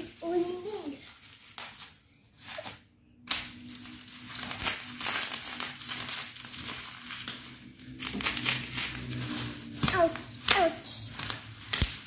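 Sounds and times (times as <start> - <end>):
bubble wrap crackling and popping: 0.0 - 12.0.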